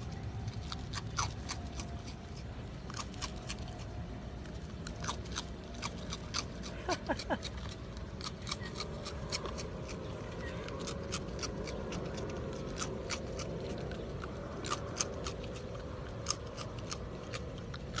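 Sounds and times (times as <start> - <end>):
raccoon crunching cereal: 0.0 - 18.0.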